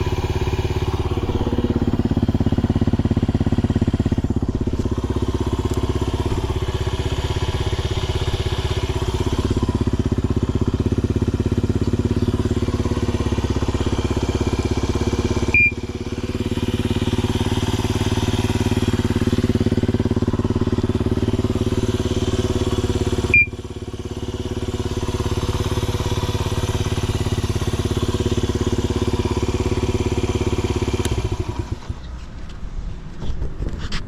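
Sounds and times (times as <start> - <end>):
motorcycle engine idling: 0.0 - 32.7.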